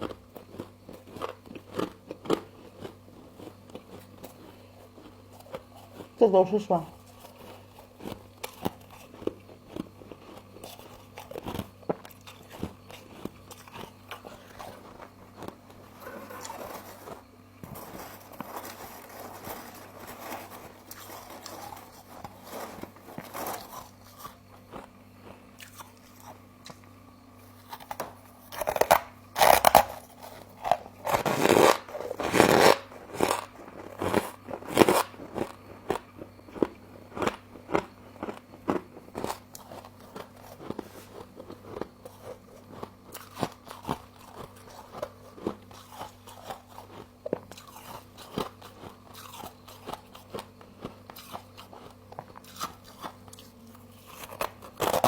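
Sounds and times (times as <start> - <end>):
chewing crunchy frost: 0.0 - 55.0.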